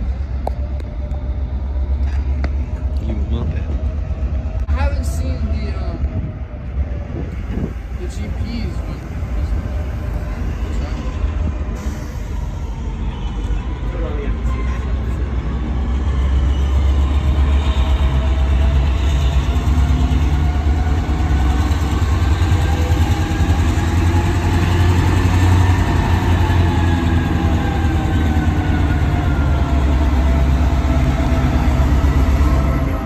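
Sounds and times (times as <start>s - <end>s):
locomotive engine rumble: 0.0s - 33.0s.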